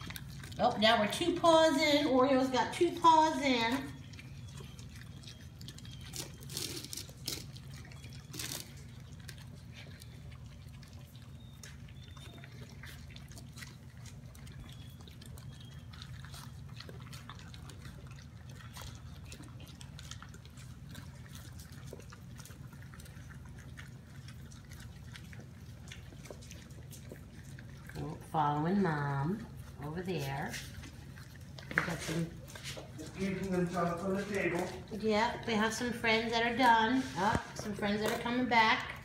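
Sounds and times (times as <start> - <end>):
puppies lapping wet food: 0.0 - 39.0.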